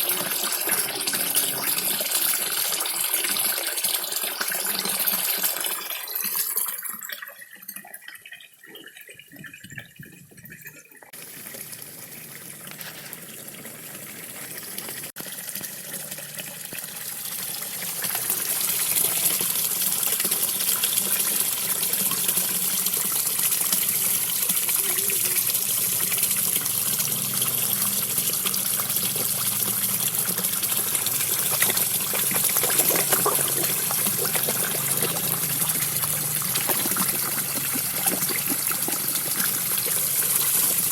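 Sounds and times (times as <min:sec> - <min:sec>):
small waterfall splashing into pond: 0:00.0 - 0:08.5, 0:11.1 - 0:40.9.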